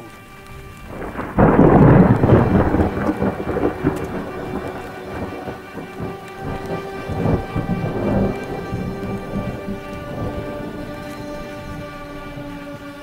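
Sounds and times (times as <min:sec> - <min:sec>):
rain falling: 0:00.0 - 0:13.0
thunder rumbling: 0:00.0 - 0:13.0.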